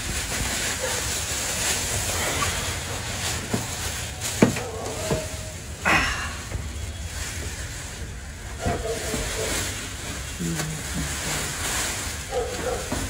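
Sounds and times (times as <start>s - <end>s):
plastic and cardboard rustling: 0.0s - 13.0s.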